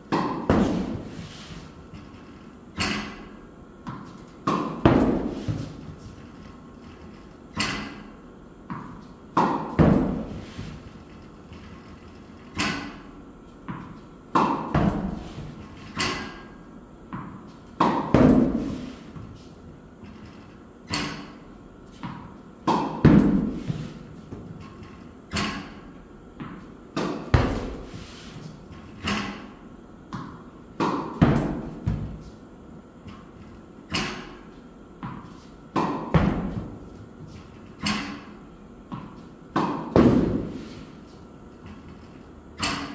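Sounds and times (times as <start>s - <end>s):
tennis racket hitting balls: 0.1s - 6.7s, 7.5s - 11.9s, 12.5s - 20.2s, 20.8s - 32.4s, 33.0s - 42.0s, 42.6s - 42.9s.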